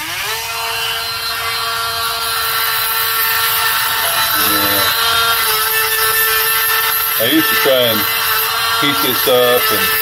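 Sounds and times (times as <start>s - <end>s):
rotary tool whining: 0.0s - 10.0s
sanding drum grinding metal: 0.0s - 10.0s.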